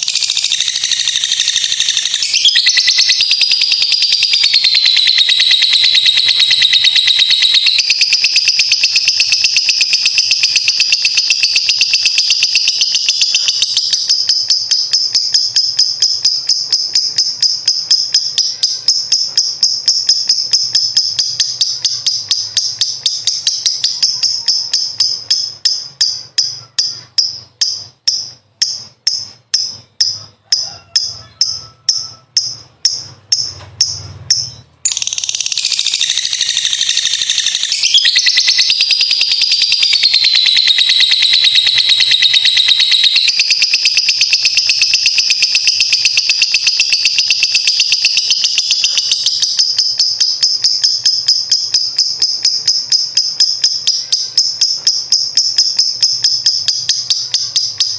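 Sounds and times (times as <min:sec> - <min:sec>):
bird chattering trill: 0:00.0 - 0:57.9.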